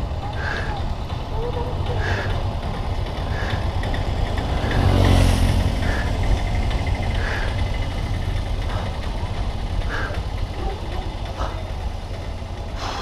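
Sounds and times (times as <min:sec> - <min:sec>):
bicycle tyres rumbling on cobblestones: 0:00.0 - 0:13.0.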